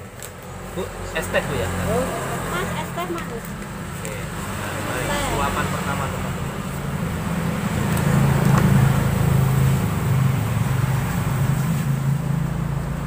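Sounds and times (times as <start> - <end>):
road traffic engine hum: 0.0 - 13.0.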